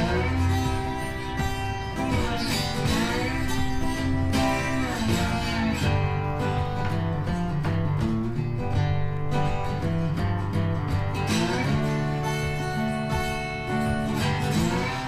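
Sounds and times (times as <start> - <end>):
country tune on acoustic guitar: 0.0 - 15.0.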